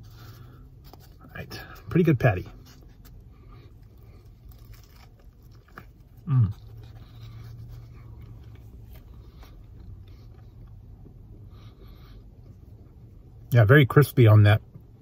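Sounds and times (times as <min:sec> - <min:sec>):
person chewing crispy food: 0:00.0 - 0:12.9.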